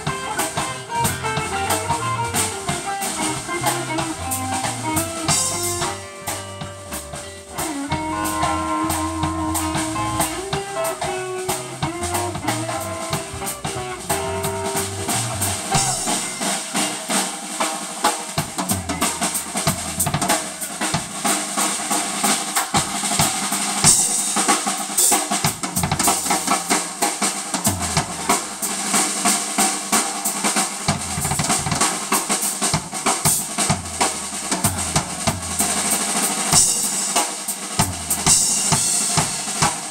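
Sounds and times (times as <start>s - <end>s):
blues band playing: 0.0s - 39.9s
drum kit snare hits and rolls: 0.0s - 39.9s.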